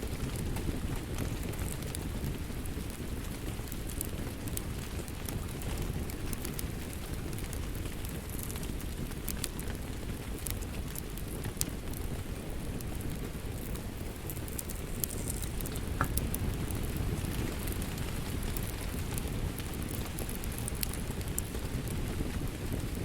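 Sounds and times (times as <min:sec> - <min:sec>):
fireplace crackling: 0:00.0 - 0:23.0
steady rain: 0:00.0 - 0:23.0.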